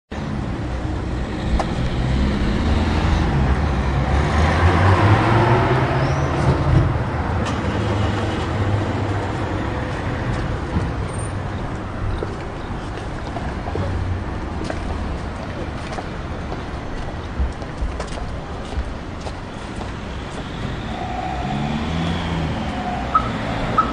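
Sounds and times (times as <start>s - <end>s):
low rumble of vehicle engines: 0.2s - 23.9s.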